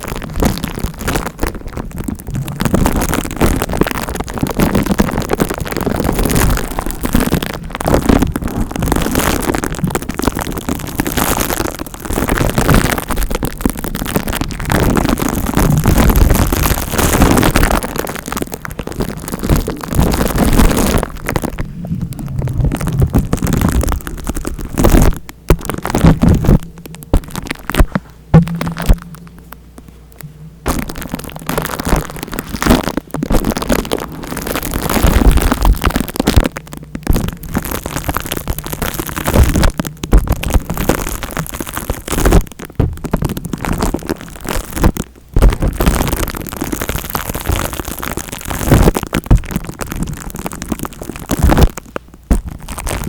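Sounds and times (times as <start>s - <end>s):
rubbing and scratching on microphone: 0.0s - 53.0s.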